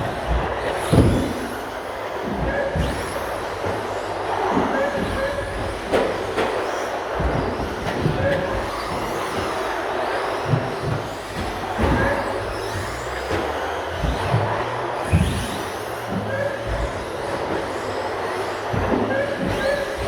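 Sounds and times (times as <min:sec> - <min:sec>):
motor whines: 0:00.0 - 0:20.0
toy trucks racing: 0:00.0 - 0:20.0.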